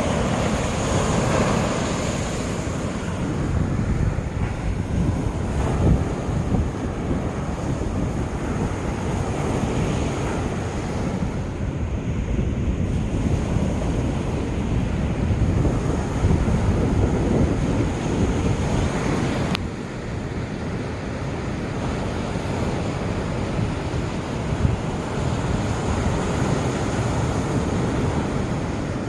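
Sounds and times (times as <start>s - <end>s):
sea waves breaking on beach: 0.0s - 29.0s
wind buffeting microphone: 0.0s - 29.0s.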